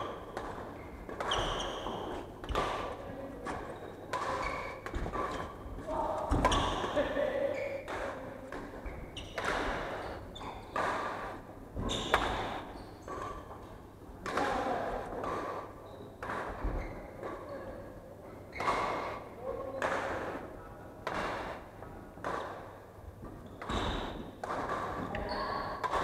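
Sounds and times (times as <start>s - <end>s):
rackets hitting shuttlecock: 0.0s - 13.6s, 14.2s - 17.4s, 21.0s - 26.0s.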